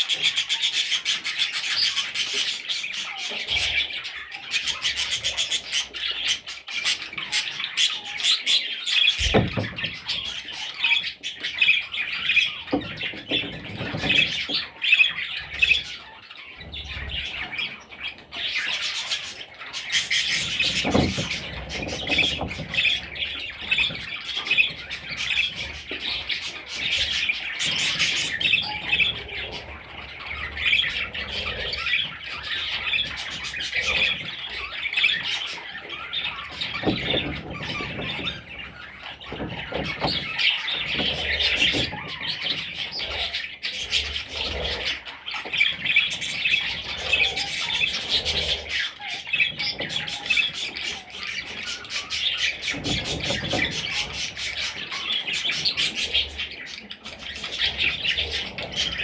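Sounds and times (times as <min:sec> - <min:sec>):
budgerigars chirping and squawking: 0:00.0 - 0:59.0.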